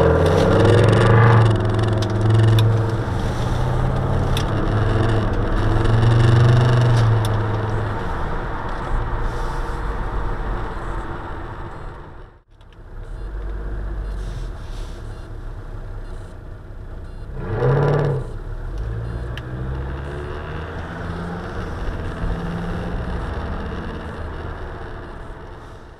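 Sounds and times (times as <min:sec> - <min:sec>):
car engine running: 0:00.0 - 0:25.9
road noise inside car: 0:00.0 - 0:25.9.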